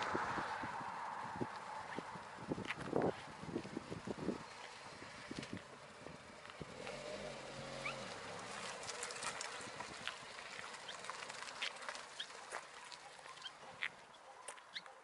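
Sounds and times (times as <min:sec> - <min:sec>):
car engine pulling away: 0:00.0 - 0:14.0.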